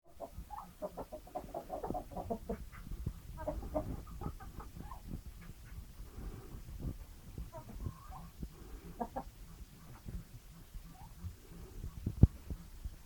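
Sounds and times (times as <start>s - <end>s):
chickens clucking: 0.1s - 13.0s.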